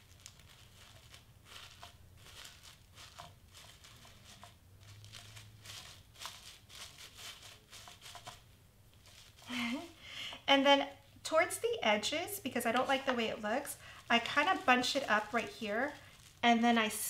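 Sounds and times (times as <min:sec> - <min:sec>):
tissue paper crinkling: 0:00.0 - 0:10.0, 0:11.6 - 0:17.0.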